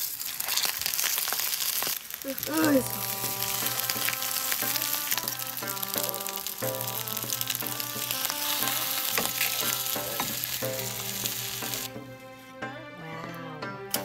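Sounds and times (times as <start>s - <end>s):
rice balls sizzling in a pan: 0.0s - 12.1s.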